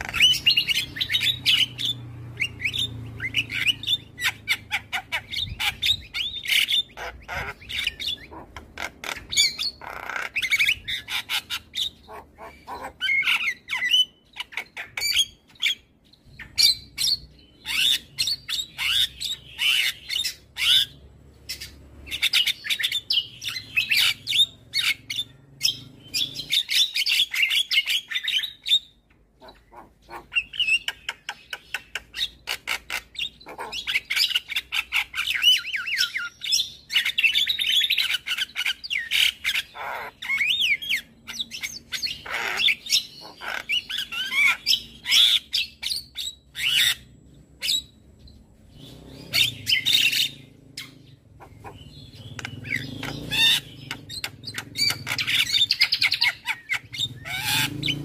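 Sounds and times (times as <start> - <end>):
myna bird singing chirps and squawks: 0.0 - 58.0.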